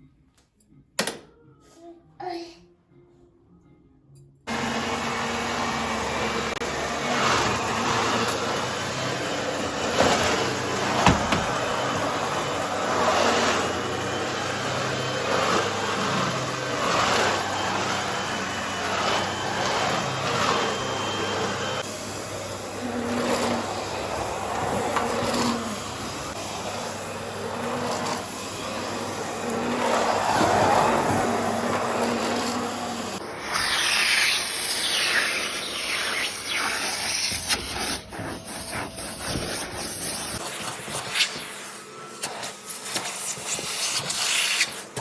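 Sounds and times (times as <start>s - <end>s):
vacuum cleaner running: 4.5s - 45.0s.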